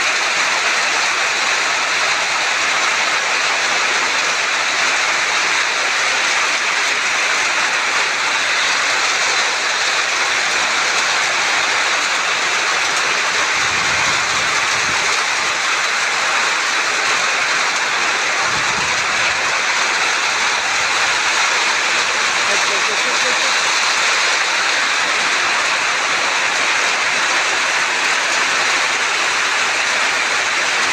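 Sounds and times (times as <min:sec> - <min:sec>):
rain falling: 0:00.0 - 0:30.9.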